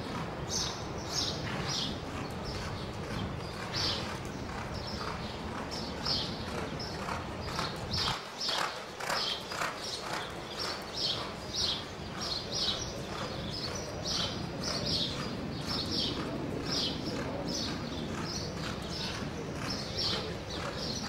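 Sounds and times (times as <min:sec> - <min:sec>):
horse hoofbeats on soft dirt: 0:00.1 - 0:21.0.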